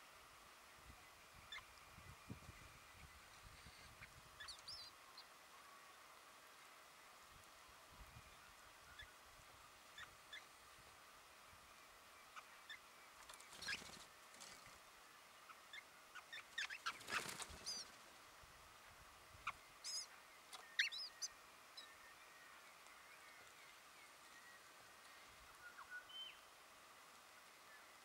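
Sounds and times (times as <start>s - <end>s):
birds chirping: 1.0s - 28.0s.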